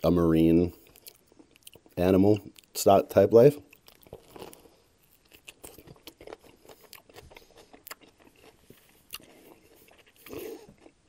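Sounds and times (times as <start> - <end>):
chewing crunchy food: 0.7 - 2.8, 3.6 - 11.0.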